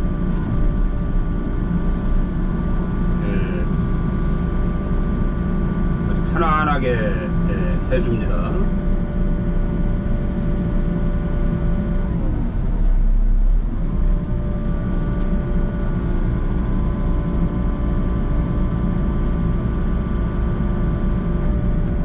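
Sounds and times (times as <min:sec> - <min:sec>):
excavator engine and hydraulics: 0:00.0 - 0:22.0
steady whine: 0:00.0 - 0:22.0.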